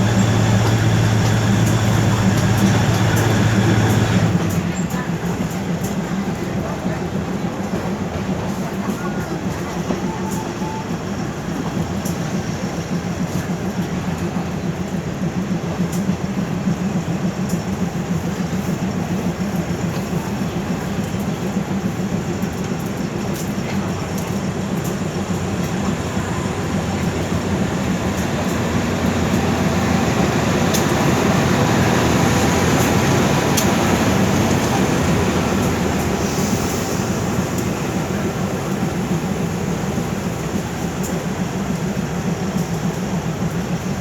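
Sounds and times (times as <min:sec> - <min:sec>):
train running on rails: 0:00.0 - 0:44.0.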